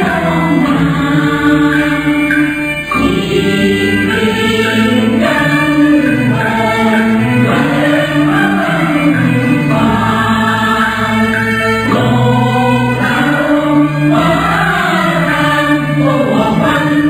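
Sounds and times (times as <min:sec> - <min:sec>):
large choir singing: 0:00.0 - 0:17.0.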